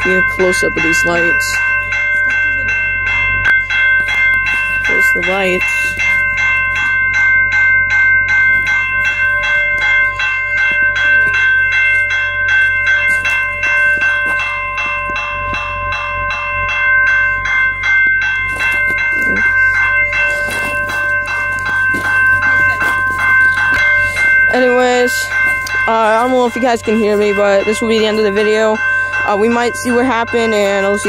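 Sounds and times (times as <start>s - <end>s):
railroad crossing bell ringing: 0.0s - 31.0s.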